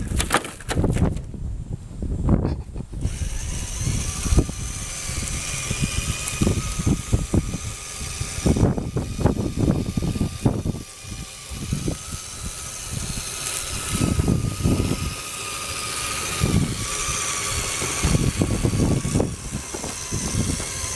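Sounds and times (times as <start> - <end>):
electric motor and gearbox whining: 0.0 - 1.3, 2.9 - 20.9.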